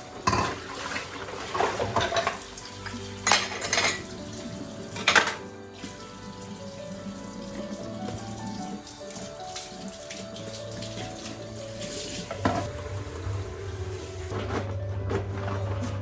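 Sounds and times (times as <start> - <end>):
tap water running into sink: 0.0 - 15.5.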